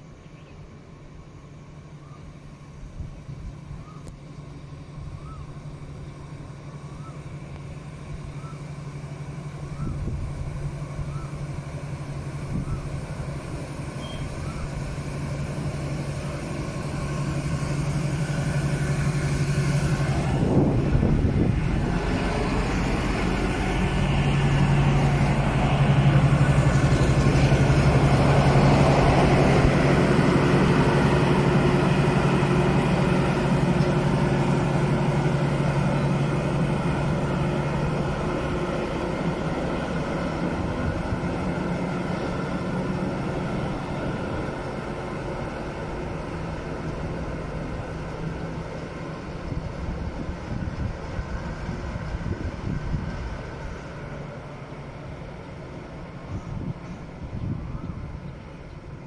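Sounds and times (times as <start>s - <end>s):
diesel locomotive engine drone: 0.0s - 59.0s
rush of passing locomotive: 0.0s - 59.0s.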